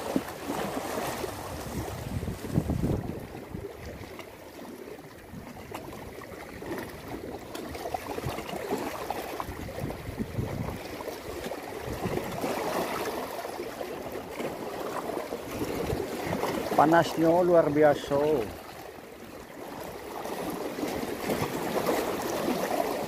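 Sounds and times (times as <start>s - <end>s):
waves lapping against rocks: 0.0s - 23.0s.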